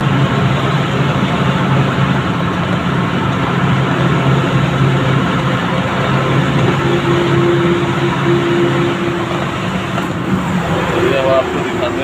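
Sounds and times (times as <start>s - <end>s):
high steady whine: 0.0s - 12.0s
road noise: 0.0s - 12.0s
truck engine drone: 0.0s - 12.0s.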